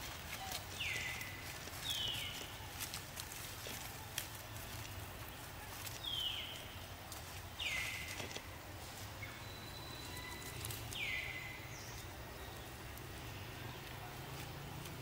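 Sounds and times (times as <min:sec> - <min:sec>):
light ticks and rustles: 0:00.0 - 0:09.2, 0:10.1 - 0:11.3, 0:11.9 - 0:15.0.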